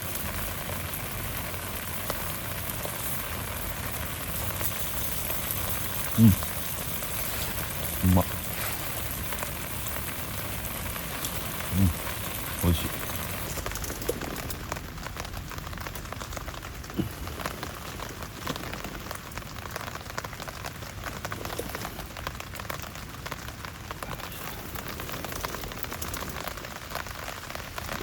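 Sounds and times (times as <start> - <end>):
steady rain patter: 0.0 - 28.0.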